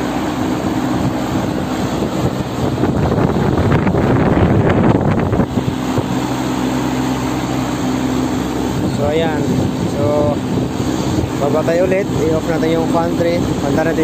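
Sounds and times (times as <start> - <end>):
rush of moving air: 0.0 - 12.5
fan motor hum: 0.0 - 14.0
wind buffeting microphone: 0.0 - 14.0.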